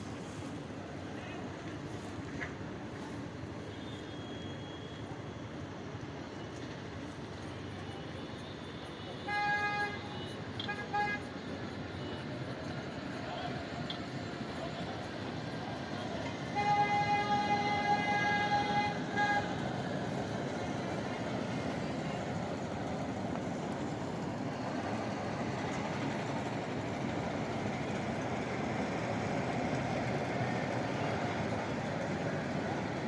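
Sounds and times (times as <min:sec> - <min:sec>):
rail trolley running on track: 0:00.0 - 0:33.0.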